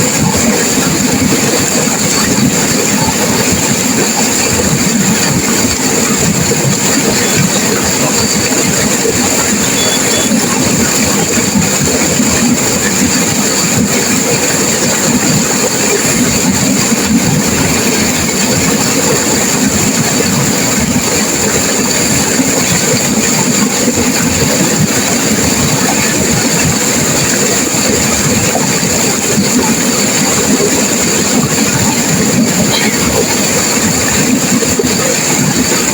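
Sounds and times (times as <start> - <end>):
river water rushing and crashing: 0.0 - 35.9.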